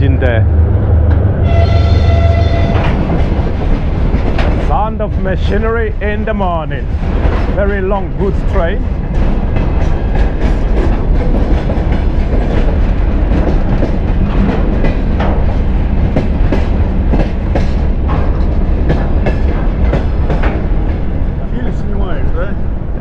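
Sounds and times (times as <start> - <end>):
freight train rumbling: 0.0 - 23.0
wheels clacking over rails: 1.0 - 22.8.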